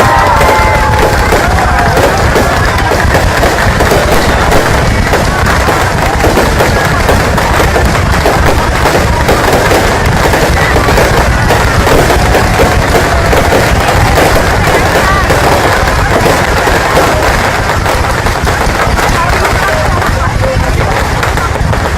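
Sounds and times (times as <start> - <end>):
crowd voices: 0.0 - 21.9
fireworks bangs and crackling: 0.0 - 21.9.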